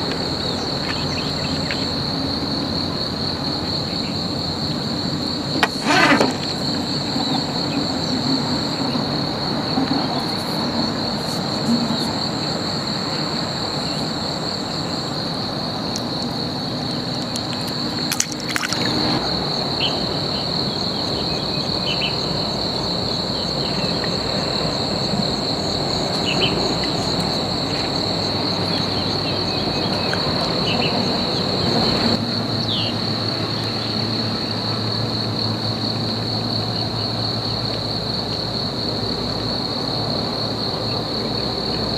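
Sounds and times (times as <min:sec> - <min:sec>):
insects trilling: 0:00.0 - 0:41.9
outdoor background hiss and rumble: 0:00.0 - 0:41.9.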